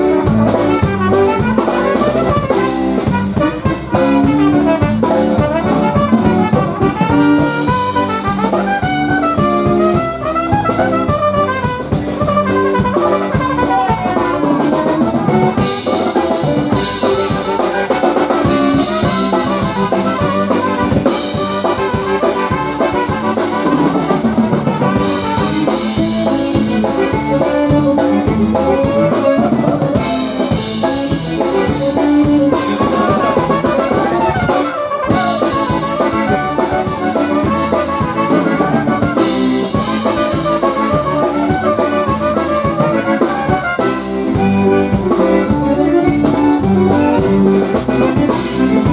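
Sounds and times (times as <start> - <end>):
polka band playing: 0.0 - 48.9.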